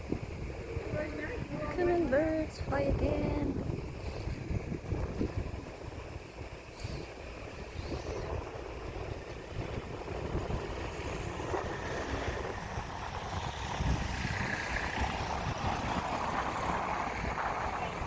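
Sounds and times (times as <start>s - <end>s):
steady outdoor hiss: 0.0s - 18.0s
wind buffeting microphone: 0.0s - 18.0s.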